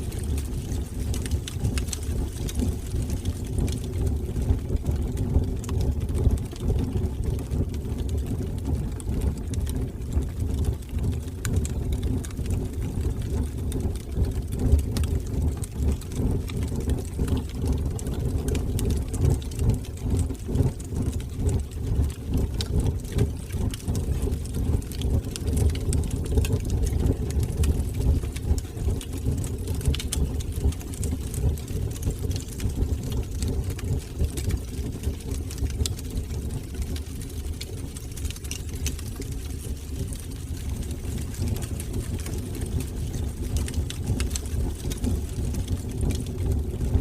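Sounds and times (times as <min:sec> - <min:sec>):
wood fire burning: 0:00.0 - 0:47.0.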